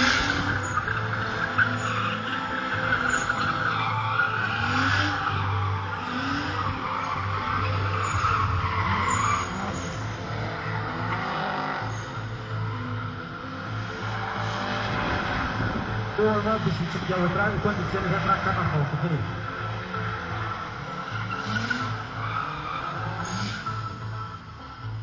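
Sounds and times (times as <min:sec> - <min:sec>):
tyres squealing: 0:00.0 - 0:14.9, 0:16.1 - 0:25.0
car engine revving: 0:00.0 - 0:25.0.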